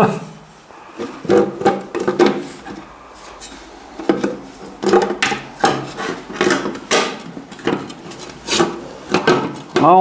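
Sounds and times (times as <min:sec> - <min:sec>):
metal scraping and knocking on metal: 0:00.8 - 0:09.9.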